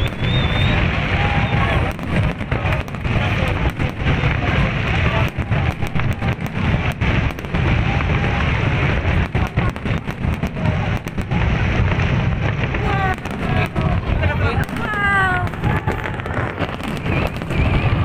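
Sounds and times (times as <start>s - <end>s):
crackle of firework bursts: 0.0s - 18.0s
deep booming of fireworks shells: 0.0s - 18.0s.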